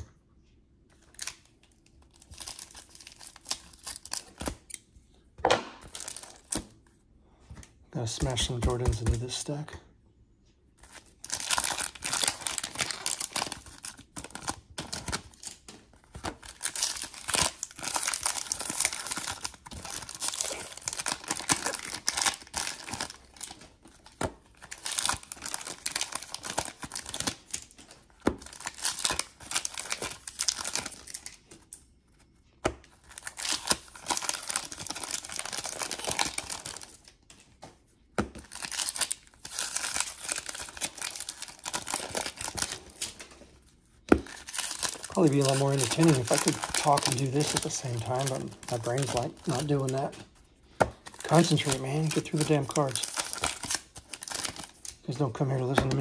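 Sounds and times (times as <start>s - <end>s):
trading cards rustling and crinkling: 0.9s - 4.8s, 5.8s - 9.6s, 10.8s - 56.0s.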